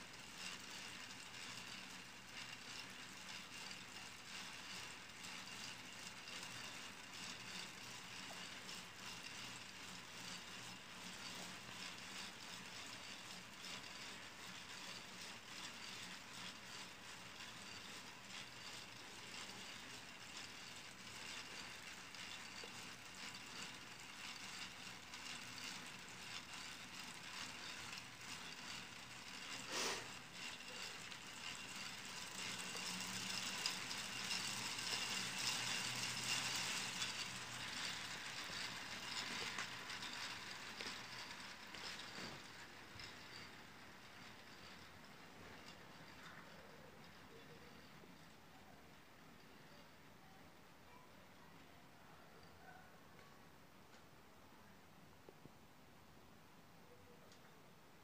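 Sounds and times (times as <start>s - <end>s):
plastic gears clicking and rattling: 0.0s - 49.6s.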